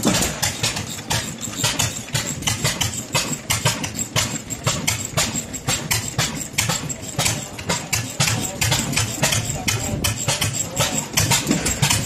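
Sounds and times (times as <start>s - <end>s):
stationary gas engines running: 0.0s - 12.0s.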